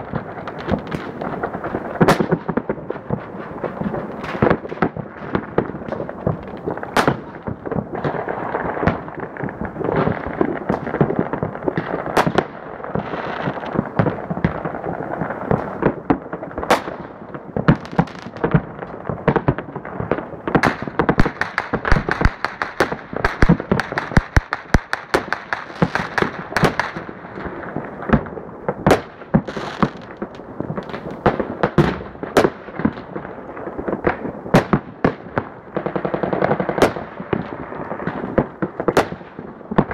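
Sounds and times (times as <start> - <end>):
close firecracker cracks: 0.0 - 14.8, 15.4 - 33.2, 34.0 - 39.9
distant fireworks bangs and crackle: 0.0 - 39.9.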